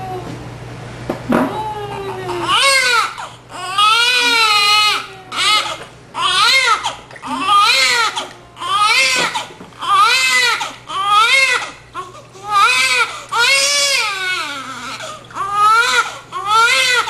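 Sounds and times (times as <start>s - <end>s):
baby crying: 1.7s - 17.0s.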